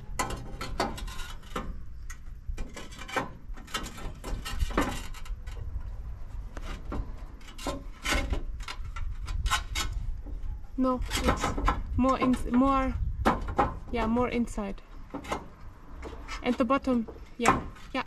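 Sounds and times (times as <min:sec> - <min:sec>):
roof tiles scraping and knocking: 0:00.0 - 0:18.0.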